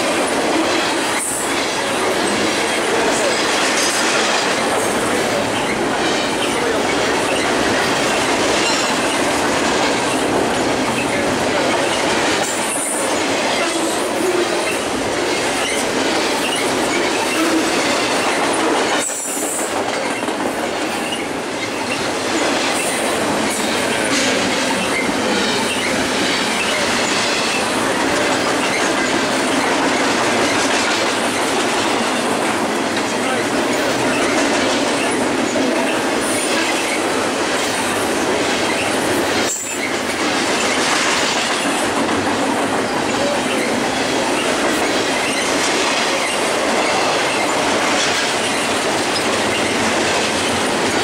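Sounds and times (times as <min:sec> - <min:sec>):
freight train wheels clattering: 0:00.0 - 0:51.0.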